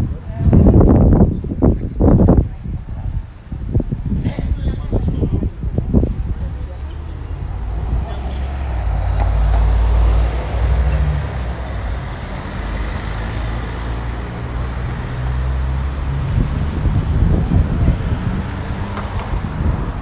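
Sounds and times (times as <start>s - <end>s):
vehicles passing: 0.0s - 20.0s
wind buffeting microphone: 0.0s - 20.0s.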